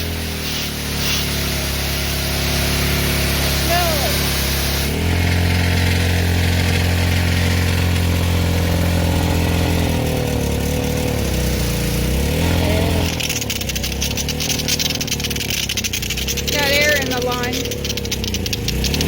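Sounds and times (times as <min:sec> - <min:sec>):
small gas engine running: 0:00.0 - 0:19.0.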